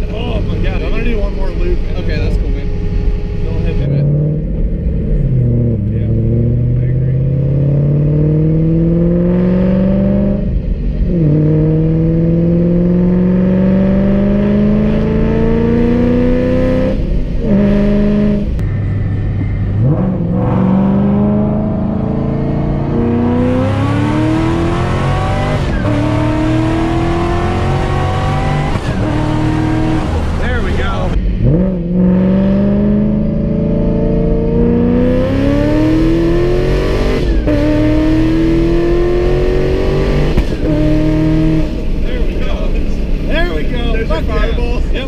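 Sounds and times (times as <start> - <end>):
car engine accelerating hard: 0.0 - 45.0.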